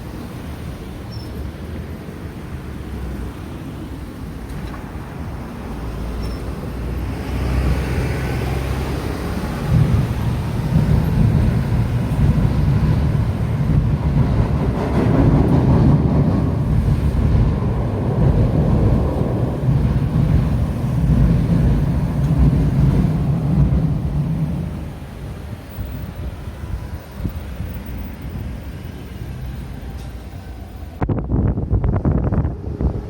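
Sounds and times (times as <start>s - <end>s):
train rumbling past: 0.0s - 33.0s.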